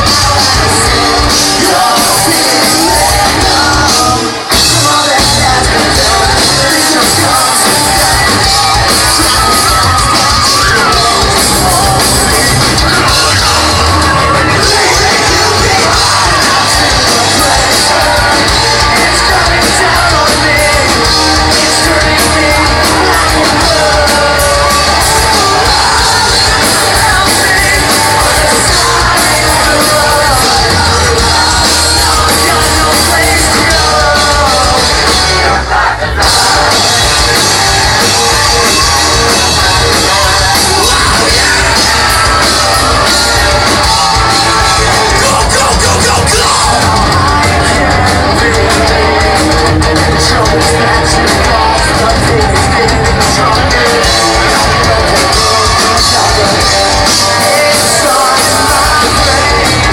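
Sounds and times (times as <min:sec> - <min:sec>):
lead singer: 0:00.0 - 0:59.9
live rock band playing: 0:00.0 - 0:59.9.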